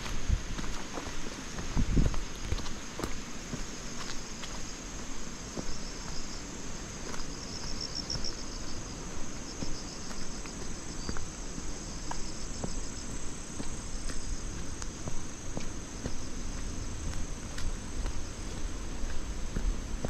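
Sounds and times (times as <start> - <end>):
crickets chirping: 0.0 - 20.0
low wind rumble: 0.0 - 20.0.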